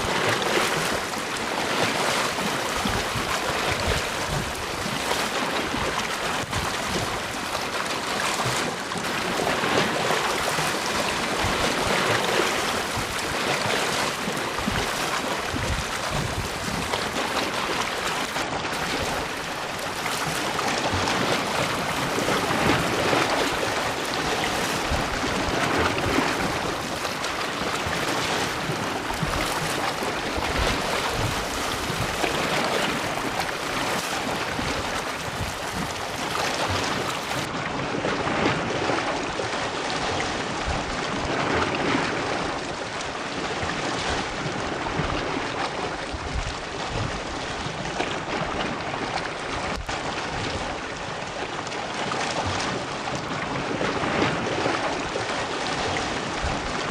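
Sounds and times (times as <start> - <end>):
sea waves washing onto beach: 0.0 - 56.9.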